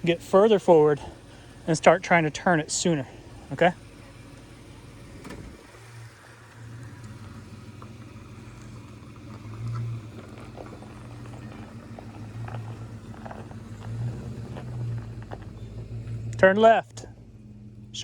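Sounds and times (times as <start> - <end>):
vehicle engine running low: 0.0 - 18.0.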